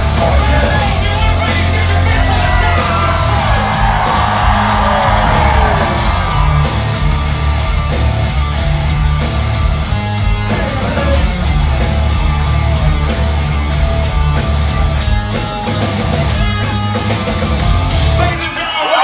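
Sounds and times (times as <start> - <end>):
live hard rock band: 0.0 - 19.0.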